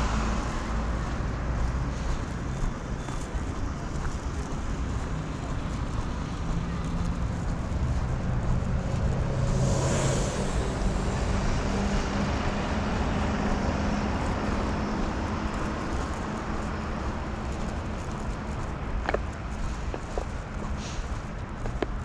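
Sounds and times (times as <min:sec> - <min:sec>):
street traffic hum: 0:00.0 - 0:22.0.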